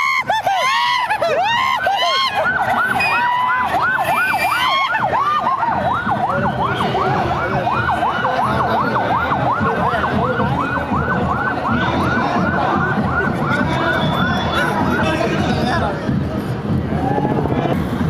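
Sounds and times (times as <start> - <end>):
police siren yelping: 0.0 - 15.1.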